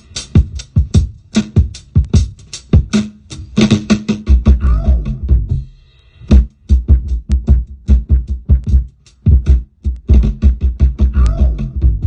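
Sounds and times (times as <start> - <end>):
fast drum beat: 0.0 - 12.0.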